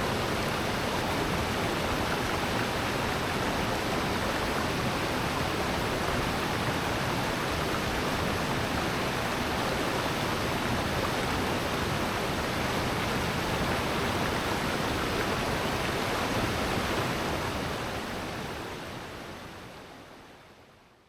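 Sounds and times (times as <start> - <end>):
stream and waterfall rushing: 0.0 - 20.6.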